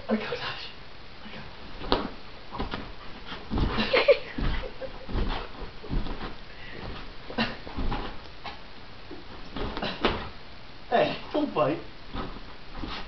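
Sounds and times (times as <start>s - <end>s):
dog paws thudding on mattress: 1.5s - 10.5s, 11.2s - 13.0s.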